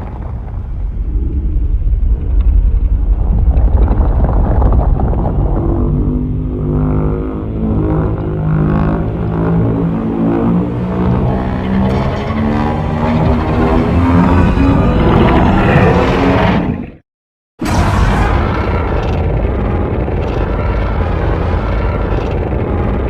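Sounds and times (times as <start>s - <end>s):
deep monster rumble: 0.0s - 17.0s, 17.6s - 23.0s.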